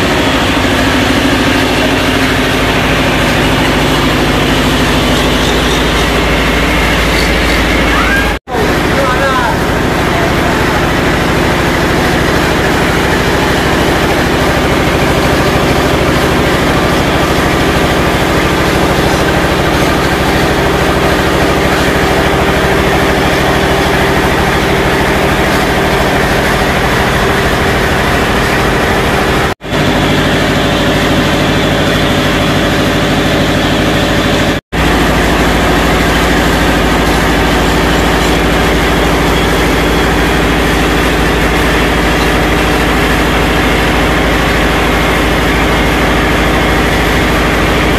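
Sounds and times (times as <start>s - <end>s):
diesel engine running steadily: 0.0s - 47.9s.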